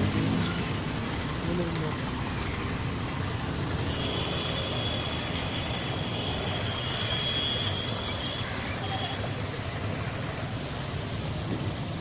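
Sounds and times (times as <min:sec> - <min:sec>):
rumbling traffic: 0:00.0 - 0:12.0.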